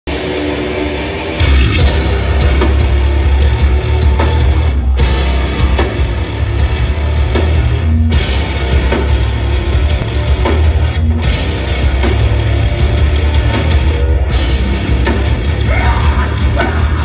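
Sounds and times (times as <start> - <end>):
heavy rock band playing: 0.1 - 17.0.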